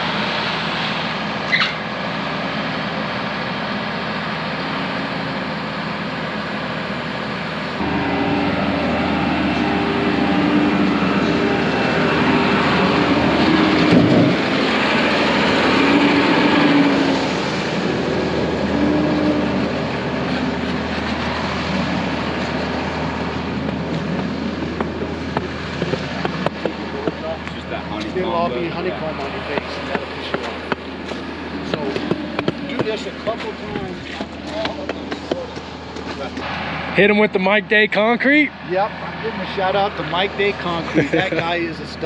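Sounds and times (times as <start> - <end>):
heavy engine revving: 0.0 - 42.0.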